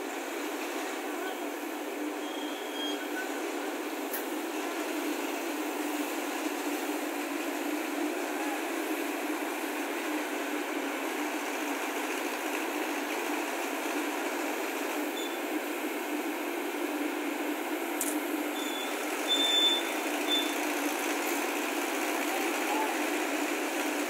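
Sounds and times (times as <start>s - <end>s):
crane diesel engine running: 0.0s - 24.0s.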